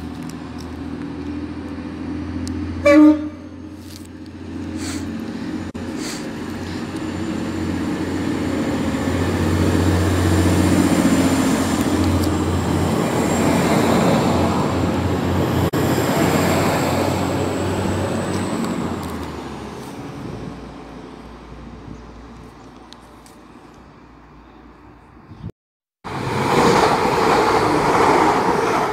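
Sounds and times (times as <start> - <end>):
diesel train engines rumbling: 0.0 - 25.4, 26.1 - 28.9.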